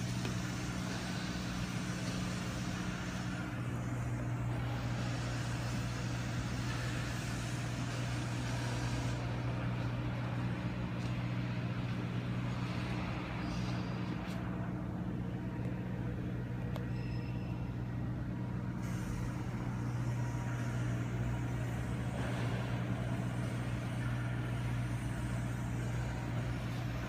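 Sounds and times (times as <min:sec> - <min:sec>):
machine humming: 0:00.0 - 0:27.0.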